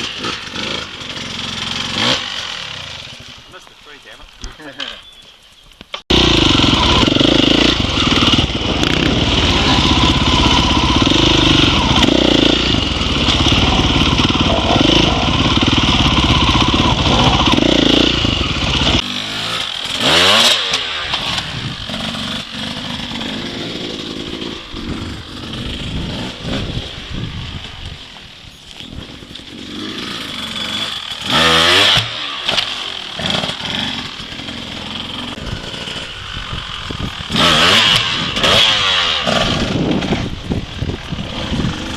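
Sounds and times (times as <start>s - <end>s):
dirt bike engine revving: 0.0s - 5.1s, 6.0s - 28.2s, 28.9s - 41.9s.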